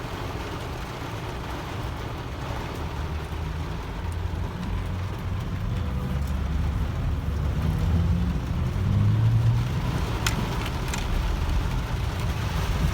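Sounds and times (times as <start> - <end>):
low vehicle rumble: 1.5 - 12.9.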